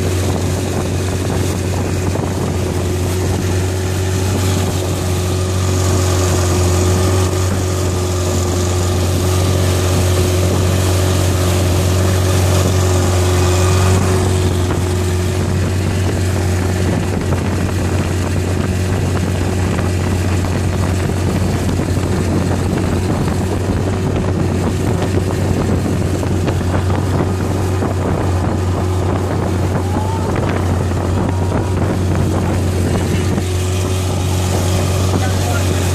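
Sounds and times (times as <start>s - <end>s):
boat engine droning: 0.0s - 35.9s
wind buffeting microphone: 0.0s - 35.9s.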